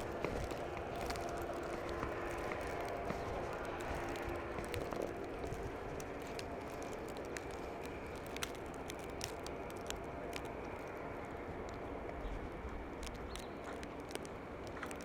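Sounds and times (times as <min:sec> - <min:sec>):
small crackling clicks: 0:00.0 - 0:15.0
street noise low rush: 0:00.0 - 0:15.0.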